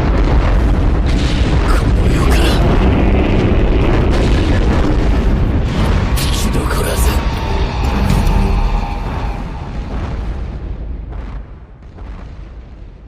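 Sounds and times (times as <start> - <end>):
deep loud rumbling of marching giants: 0.0 - 13.0.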